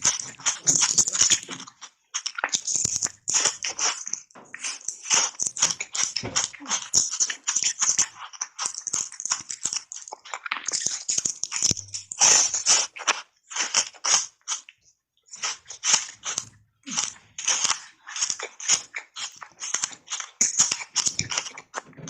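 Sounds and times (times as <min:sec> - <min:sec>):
ice cubes crunching: 0:00.0 - 0:14.7, 0:15.4 - 0:22.0.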